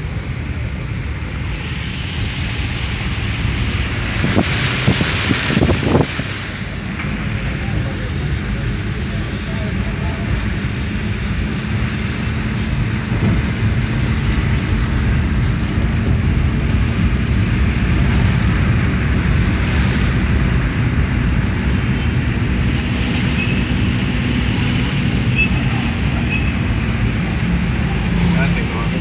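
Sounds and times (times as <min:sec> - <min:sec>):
car engine hum and road rumble: 0:00.0 - 0:29.0.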